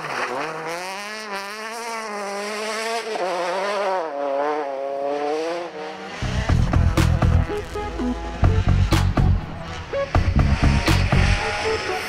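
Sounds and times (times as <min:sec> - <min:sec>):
car engine revving hard: 0:00.1 - 0:12.0.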